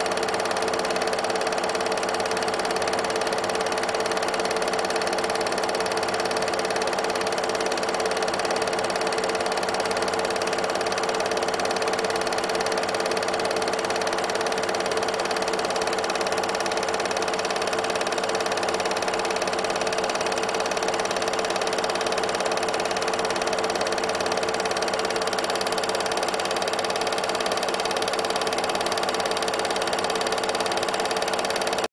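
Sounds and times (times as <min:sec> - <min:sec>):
film projector whirring: 0:00.0 - 0:31.9.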